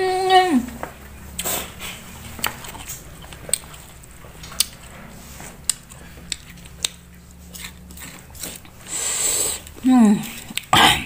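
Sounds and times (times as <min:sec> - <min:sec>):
person chewing: 0:01.3 - 0:11.0.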